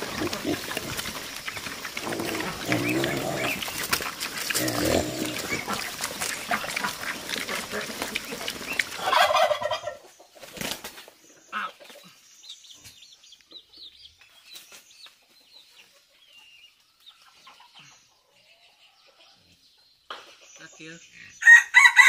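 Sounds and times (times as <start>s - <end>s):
chickens calling: 0.0s - 22.0s.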